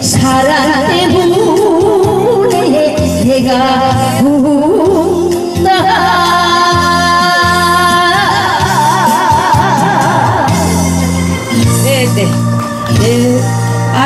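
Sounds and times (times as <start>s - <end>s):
woman singing into a microphone: 0.0s - 14.0s.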